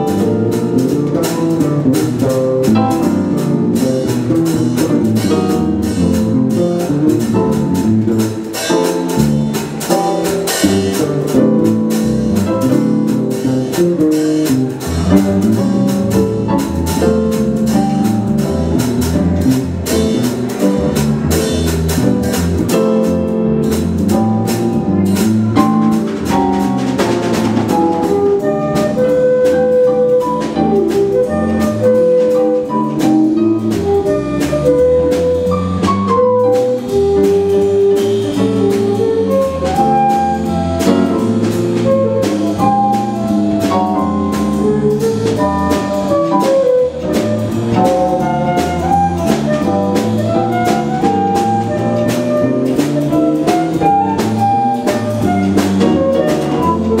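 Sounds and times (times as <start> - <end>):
flute melody: 0.0 - 57.0
jazz quartet playing: 0.0 - 57.0.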